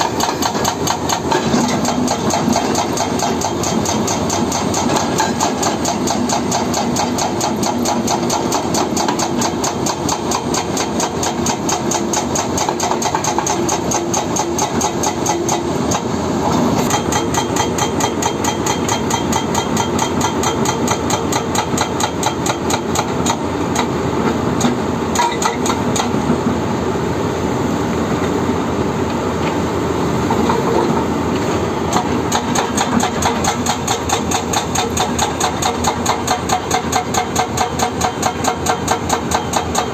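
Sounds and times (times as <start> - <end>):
hydraulic breaker hammering rock: 0.0 - 16.2, 16.8 - 26.4, 31.9 - 39.9
excavator engine running: 0.0 - 39.9.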